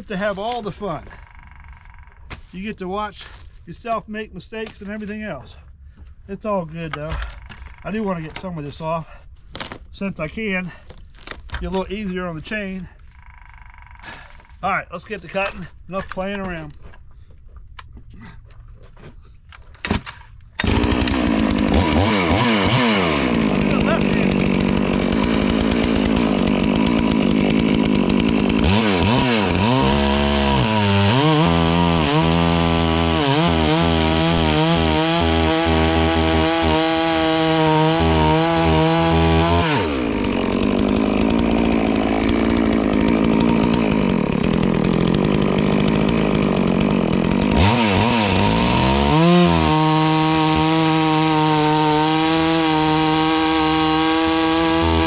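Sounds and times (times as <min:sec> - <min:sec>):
chainsaw cutting log: 0:00.0 - 0:03.9, 0:09.4 - 0:10.6, 0:11.2 - 0:16.7, 0:19.8 - 0:55.0.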